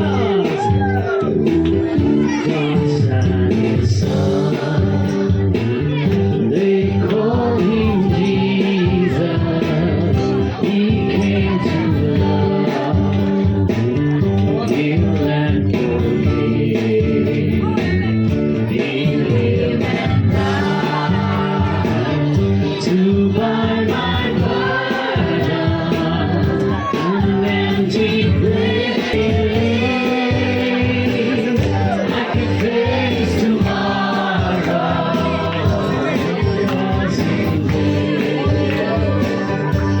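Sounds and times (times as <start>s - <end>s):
gospel choir singing: 0.0s - 14.0s, 14.6s - 40.0s.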